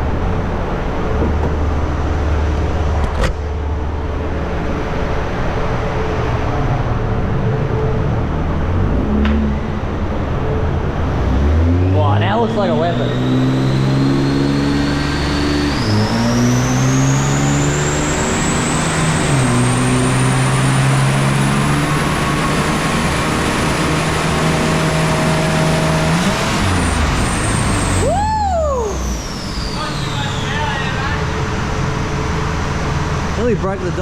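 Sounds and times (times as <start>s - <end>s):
engine whine on a dyno: 0.0s - 34.0s.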